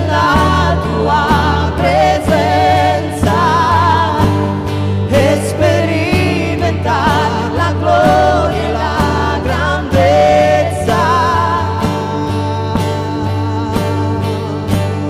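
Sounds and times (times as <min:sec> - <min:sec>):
band playing chords and beat: 0:00.0 - 0:15.0
person singing with vibrato: 0:00.0 - 0:15.0.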